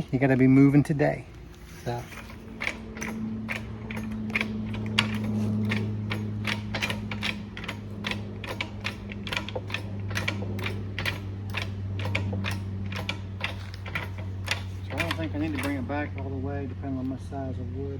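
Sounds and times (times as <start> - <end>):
continuous low hum: 0.0 - 17.9
hand pump mechanical clicks: 1.3 - 16.4.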